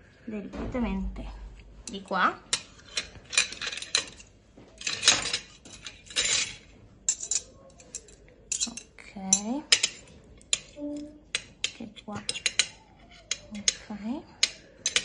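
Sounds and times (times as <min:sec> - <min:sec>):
cutlery clinking on ceramic plate: 0:02.5 - 0:15.0.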